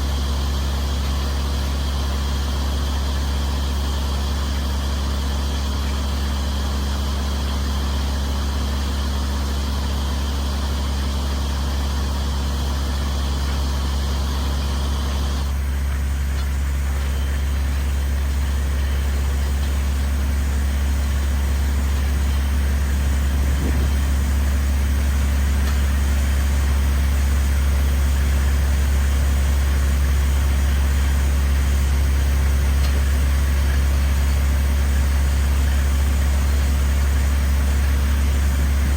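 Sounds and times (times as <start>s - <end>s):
drilling rig engine droning: 0.0s - 38.9s.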